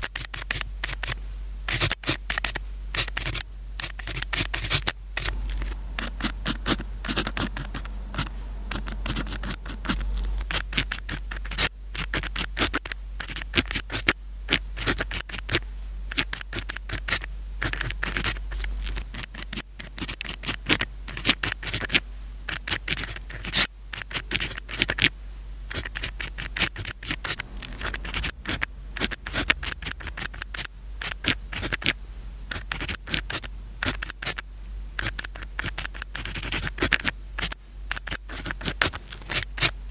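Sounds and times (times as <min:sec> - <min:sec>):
pen scratching on paper: 0:00.0 - 0:25.1, 0:25.7 - 0:34.4, 0:35.0 - 0:39.9.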